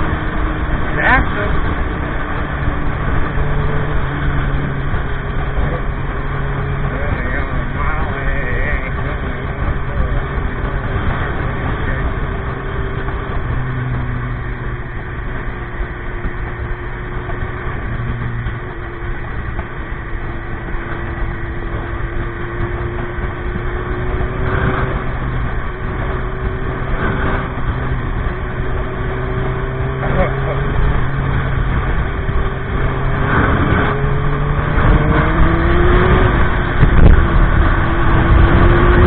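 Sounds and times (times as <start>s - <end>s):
motorcycle engine drone: 0.0s - 39.0s
road noise: 0.0s - 39.0s.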